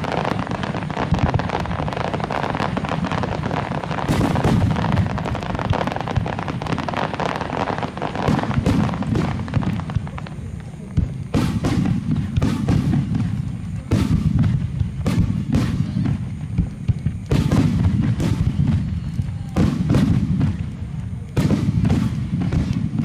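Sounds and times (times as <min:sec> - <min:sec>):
deep rumble of echoing detonations: 0:00.0 - 0:23.0
fireworks bursting with booms: 0:00.0 - 0:23.0.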